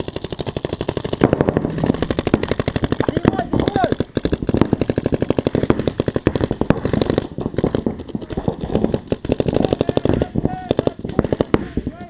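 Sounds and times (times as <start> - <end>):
paintball markers firing rapidly: 0.0 - 12.0.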